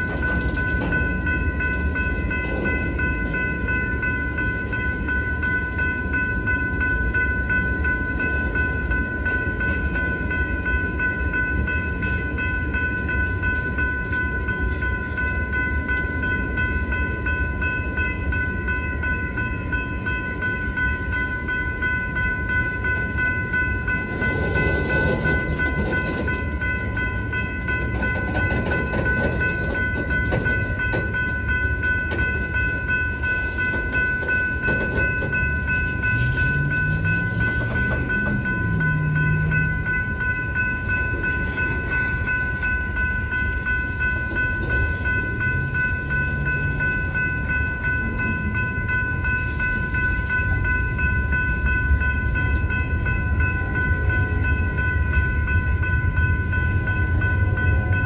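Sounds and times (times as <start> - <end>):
crossing warning bell ringing: 0.0 - 58.0
train wheels rumbling on rails: 0.0 - 58.0.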